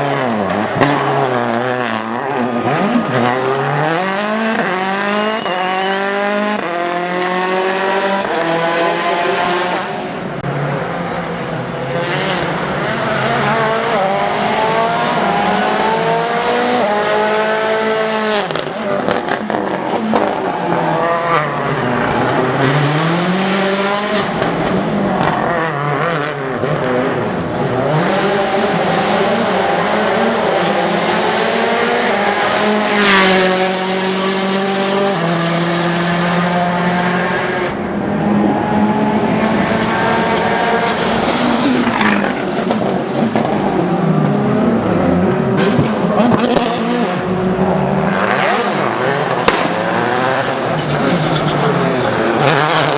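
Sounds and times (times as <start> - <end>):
rally car engine revving hard: 0.0 - 52.9.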